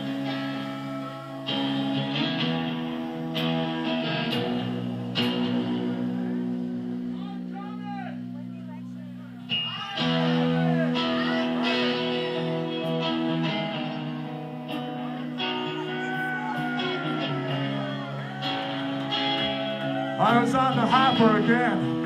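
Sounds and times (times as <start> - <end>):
electric guitar chords ringing: 0.0 - 22.0.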